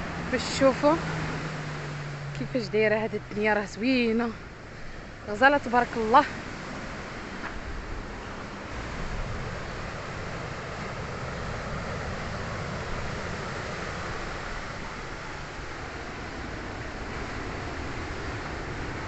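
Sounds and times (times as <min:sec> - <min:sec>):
waves washing onto shore: 0:00.0 - 0:19.0.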